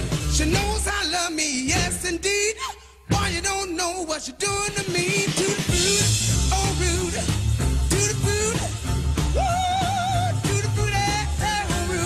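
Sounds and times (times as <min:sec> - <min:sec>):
rock and roll music: 0:00.0 - 0:12.0.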